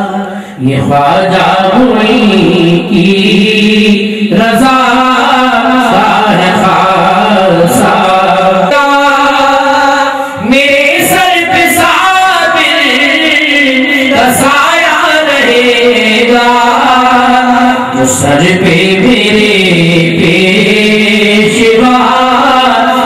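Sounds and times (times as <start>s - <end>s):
men chanting into microphones: 0.0s - 23.0s.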